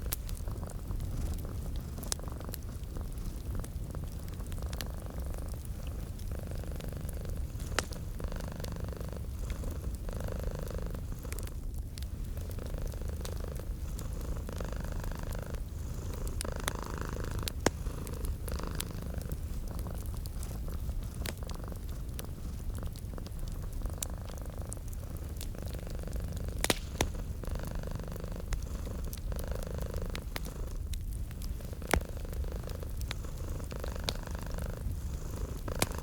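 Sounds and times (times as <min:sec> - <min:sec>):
cat purring: 0:00.0 - 0:36.0
wood fire crackling: 0:00.0 - 0:36.0.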